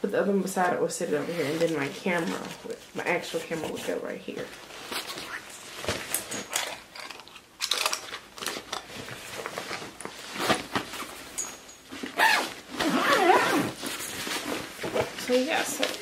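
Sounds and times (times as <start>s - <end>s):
fabric rustling and scraping: 0.6s - 6.5s, 8.6s - 16.0s.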